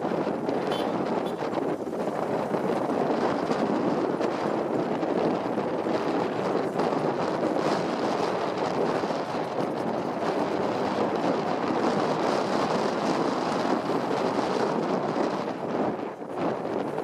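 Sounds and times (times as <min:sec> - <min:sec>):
moving vehicle rushing noise: 0:00.0 - 0:17.0
wind on microphone: 0:00.0 - 0:17.0.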